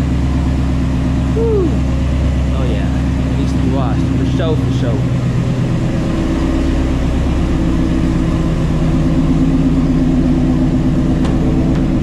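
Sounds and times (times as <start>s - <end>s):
car engine running from inside cabin: 0.0s - 12.0s.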